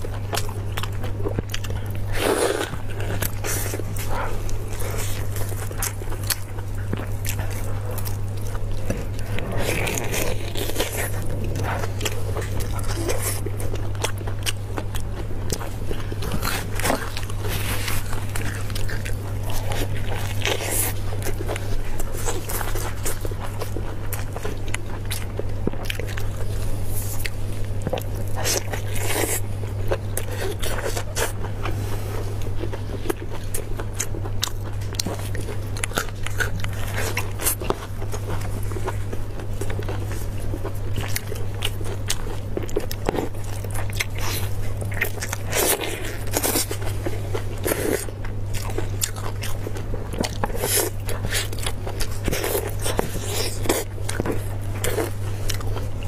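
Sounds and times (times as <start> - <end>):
biting and chewing meat: 0.0 - 56.0
steady low hum: 0.0 - 56.0.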